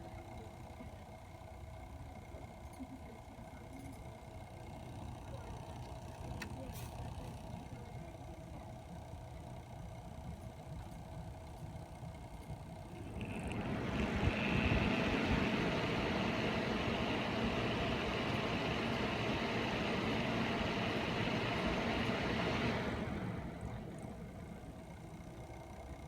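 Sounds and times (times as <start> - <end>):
radiator fans whirring loudly: 0.0 - 26.0.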